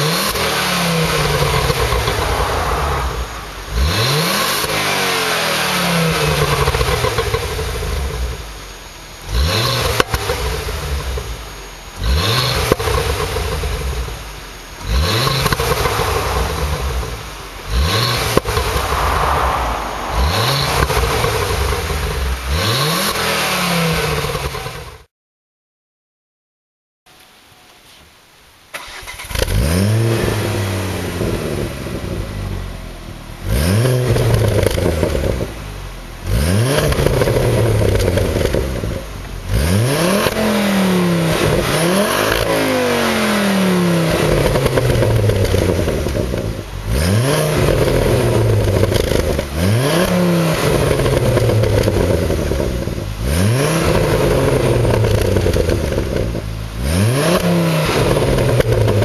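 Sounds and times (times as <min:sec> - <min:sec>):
car engine revving: 0:00.0 - 0:25.1, 0:28.8 - 0:59.0.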